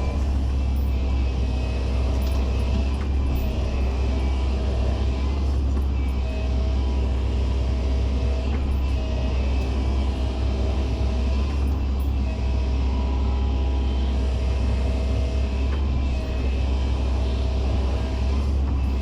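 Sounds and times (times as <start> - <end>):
excavator diesel engine rumbling: 0.0 - 19.0.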